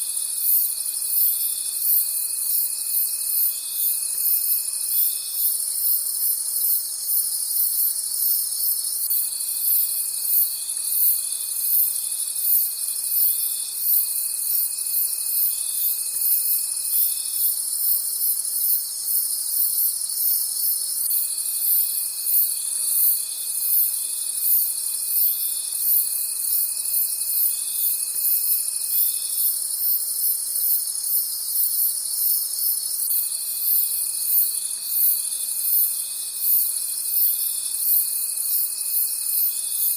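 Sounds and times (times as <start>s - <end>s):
crickets chirping: 0.0s - 39.9s
low steady insect trill: 0.0s - 39.9s.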